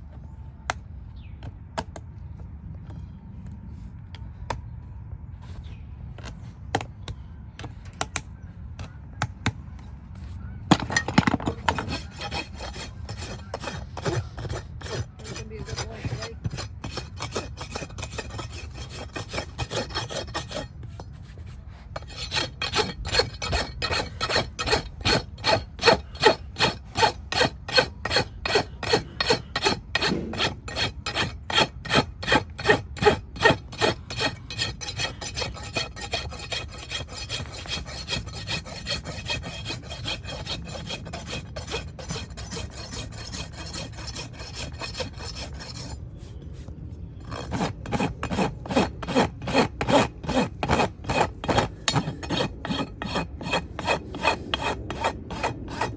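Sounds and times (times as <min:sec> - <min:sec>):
rasp filing a hoof: 0:10.7 - 0:55.9.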